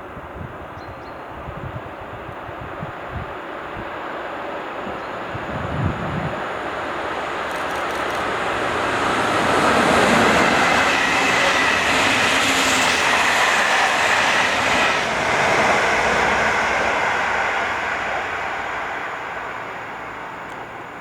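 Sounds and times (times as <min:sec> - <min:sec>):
train wheel-on-rail noise: 0:00.0 - 0:21.0.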